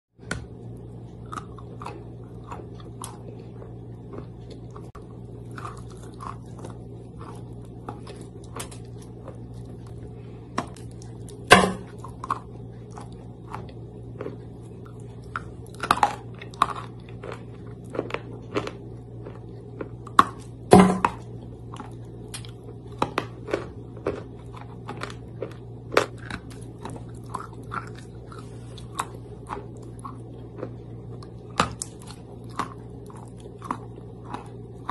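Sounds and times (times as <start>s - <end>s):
steady low hum: 0.1s - 34.9s
wet crunching and chewing: 0.3s - 34.9s.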